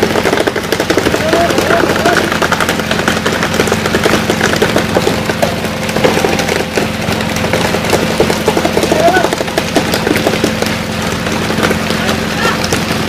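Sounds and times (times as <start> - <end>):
boat engine humming: 0.0 - 13.0
fish thrashing on wooden deck: 0.0 - 13.0.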